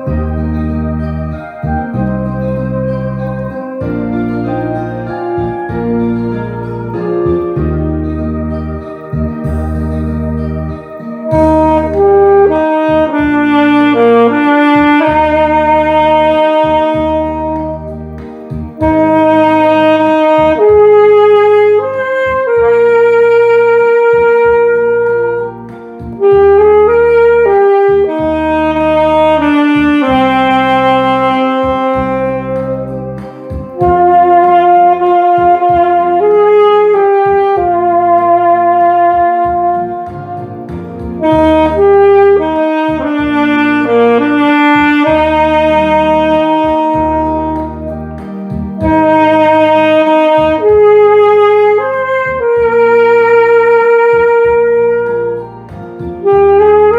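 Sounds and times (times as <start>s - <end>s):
recorded accompaniment with bass: 0.0s - 56.9s
saxophone playing slow melody: 0.0s - 56.9s.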